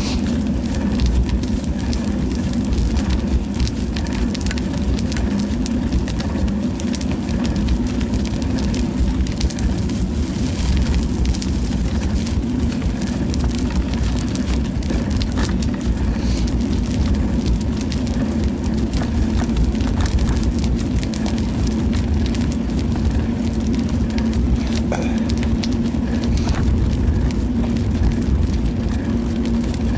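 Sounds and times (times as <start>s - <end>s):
low hum: 0.0s - 29.9s
rolling road noise: 0.0s - 29.9s
wind rush on microphone: 0.0s - 29.9s.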